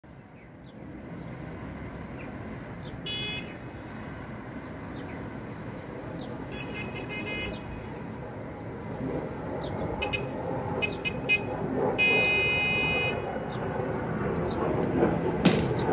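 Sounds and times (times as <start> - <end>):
jet aircraft flying overhead: 0.1 - 15.9.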